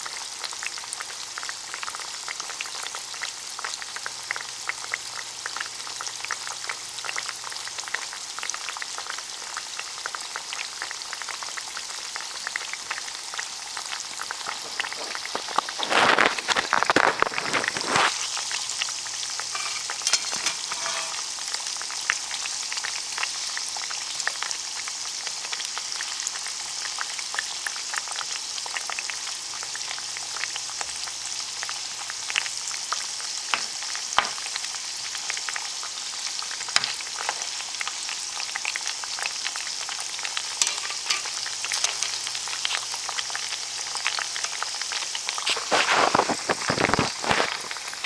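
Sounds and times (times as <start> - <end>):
fries sizzling in oil: 0.0 - 48.0.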